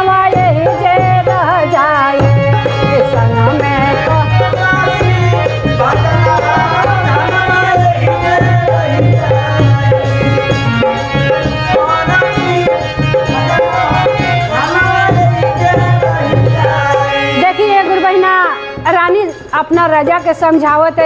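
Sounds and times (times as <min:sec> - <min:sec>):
hand drums and rattling percussion: 0:00.0 - 0:17.5, 0:18.8 - 0:21.0.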